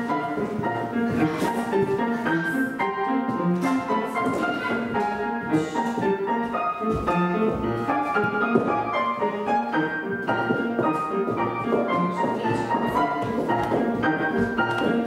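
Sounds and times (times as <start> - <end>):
upright piano playing: 0.0 - 15.0.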